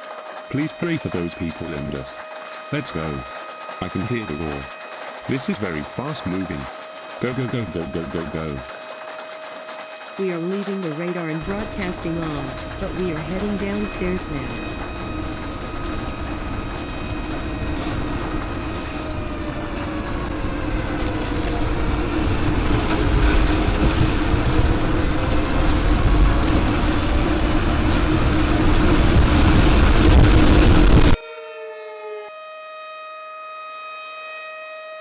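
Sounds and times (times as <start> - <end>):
tornado roaring: 0.0 - 31.2
slow wailing tone: 0.0 - 35.0.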